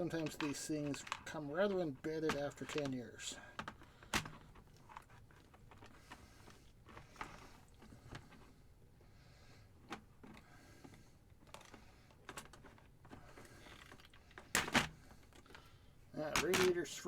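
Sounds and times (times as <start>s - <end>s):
faint clicks and knocks: 0.0s - 8.6s, 9.8s - 16.8s.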